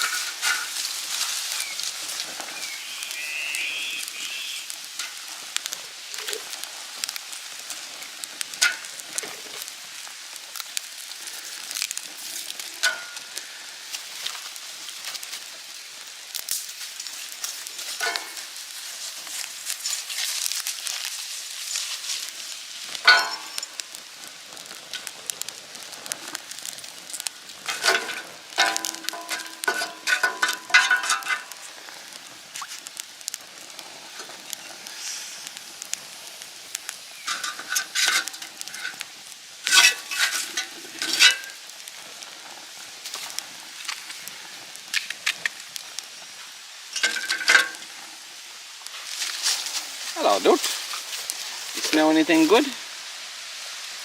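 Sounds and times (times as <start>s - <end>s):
food sizzling in a pan: 0.0s - 54.0s
wood fire crackling: 0.0s - 54.0s.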